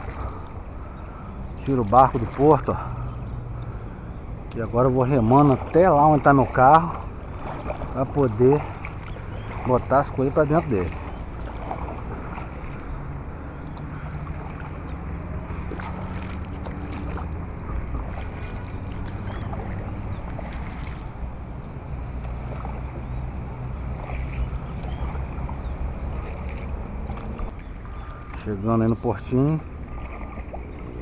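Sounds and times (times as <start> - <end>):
paddle pulling through water: 0.0 - 31.0
water washing along hull: 0.0 - 31.0
wind buffeting microphone: 0.0 - 31.0.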